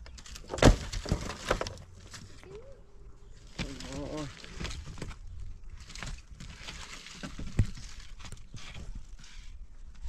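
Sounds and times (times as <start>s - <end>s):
wood scraping on wood and stone: 0.0s - 2.5s, 3.2s - 10.0s.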